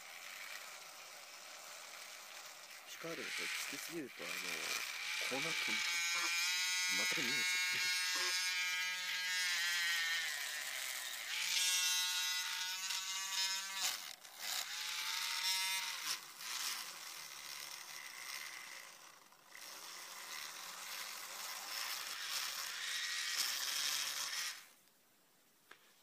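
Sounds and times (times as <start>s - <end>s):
rasping polishing noise: 0.0s - 24.7s
rotary tool motor whine: 0.0s - 24.9s.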